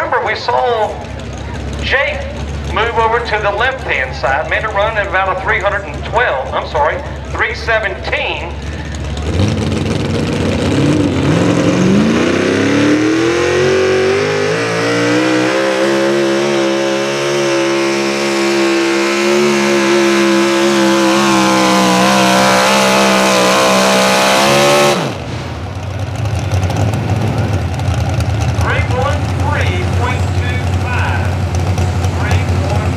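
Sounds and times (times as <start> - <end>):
truck engine at full throttle: 0.0 - 32.9.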